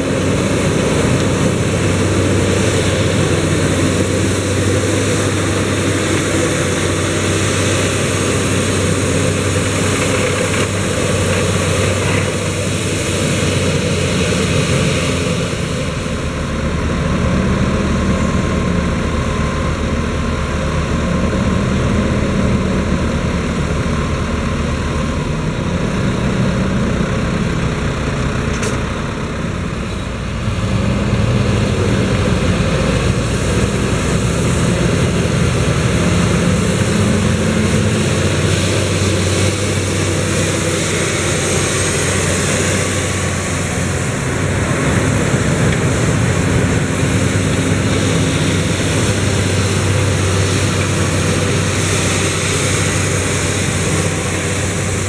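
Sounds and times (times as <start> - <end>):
tractor engines running: 0.0 - 55.0.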